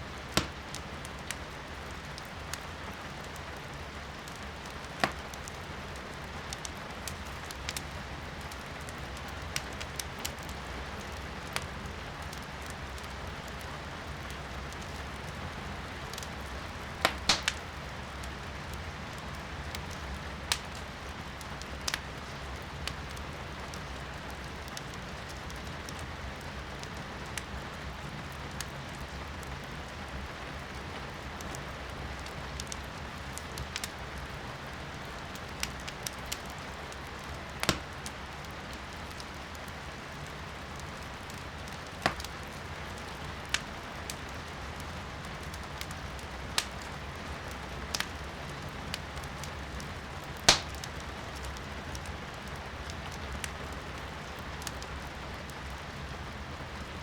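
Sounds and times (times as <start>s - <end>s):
firewood crackling and popping: 0.1s - 57.0s.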